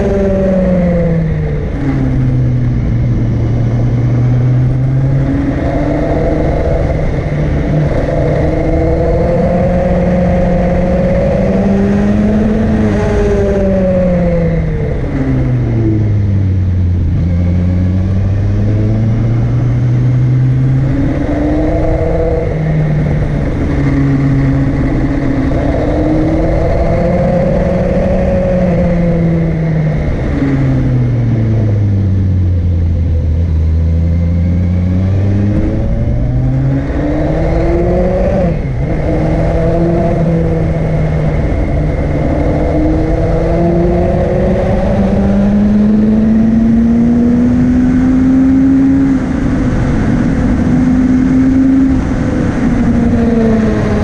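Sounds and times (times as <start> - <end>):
motorcycle engine accelerating: 0.0 - 54.0
wind rush over microphone: 0.0 - 54.0.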